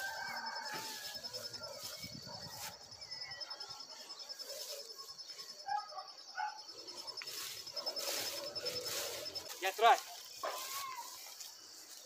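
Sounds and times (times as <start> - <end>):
pulsing insect trill: 0.0 - 12.0.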